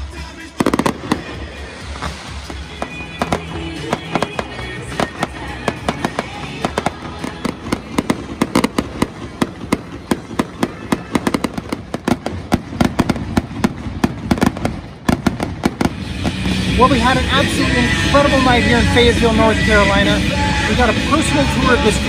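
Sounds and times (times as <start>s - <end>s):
fireworks popping and banging: 0.0s - 22.0s.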